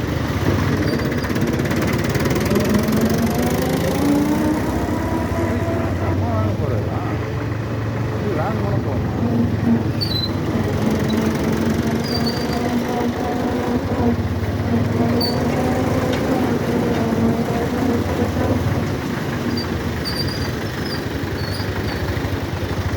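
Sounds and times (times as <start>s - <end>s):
tractor diesel engine running: 0.0s - 22.9s.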